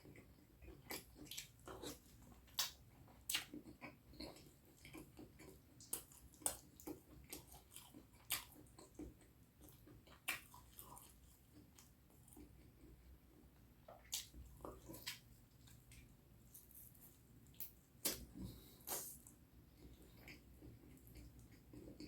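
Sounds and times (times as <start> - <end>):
wet chewing and lip smacking: 0.0 - 22.0.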